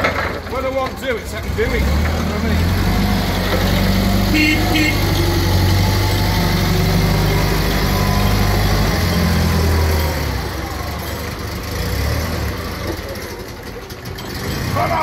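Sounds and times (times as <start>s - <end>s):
forklift engine running: 0.0s - 15.0s.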